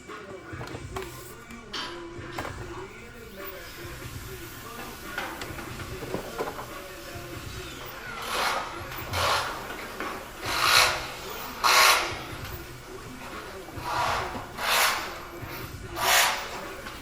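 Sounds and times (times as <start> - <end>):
hand tool rasping strokes: 0.9 - 17.0.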